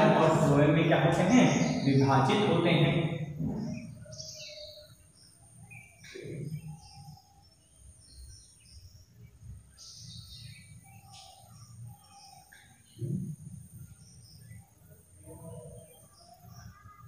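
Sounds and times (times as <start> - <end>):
faint bird chirps and whistles: 3.0 - 17.0.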